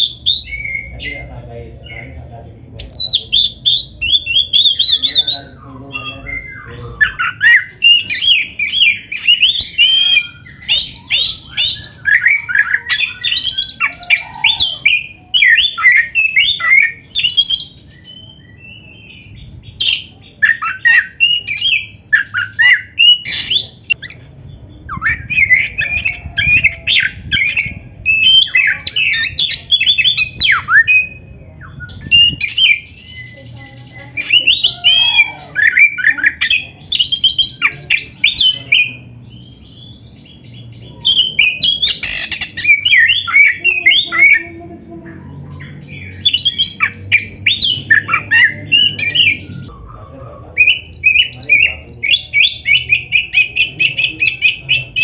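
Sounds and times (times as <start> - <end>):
magpie-robin singing: 0.0 - 55.0.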